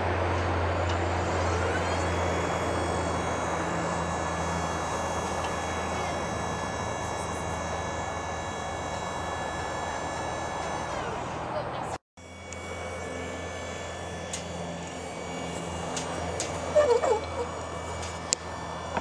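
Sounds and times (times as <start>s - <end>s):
high hydraulic whine: 0.0s - 19.0s
hydraulic drive hum: 0.0s - 19.0s.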